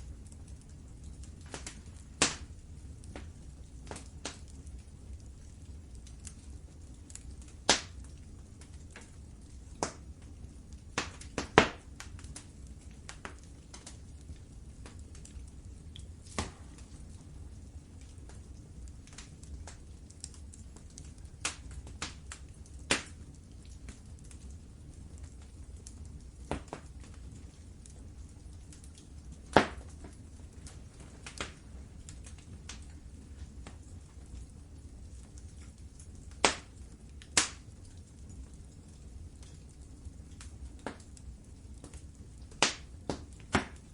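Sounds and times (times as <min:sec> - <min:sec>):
low steady rumble: 0:00.0 - 0:11.0, 0:11.8 - 0:43.2
wood fire crackling: 0:00.0 - 0:43.9.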